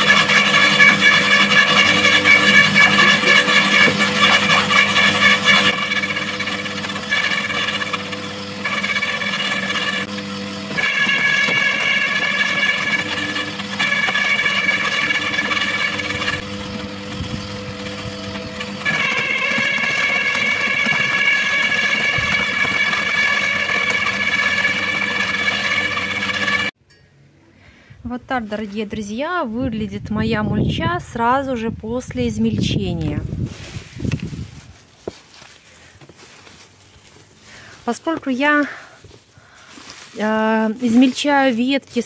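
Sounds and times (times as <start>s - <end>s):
garden shredder whining: 0.0s - 26.8s, 32.5s - 42.0s.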